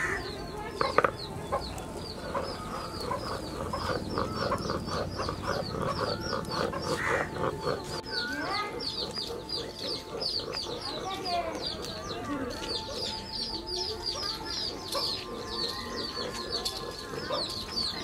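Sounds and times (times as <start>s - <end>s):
hens clucking: 0.0s - 18.0s
small birds chirping: 0.0s - 18.0s.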